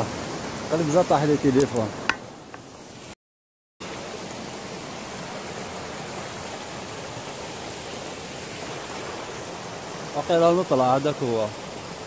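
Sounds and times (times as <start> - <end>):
mountain stream rushing: 0.0 - 3.2, 3.8 - 12.0.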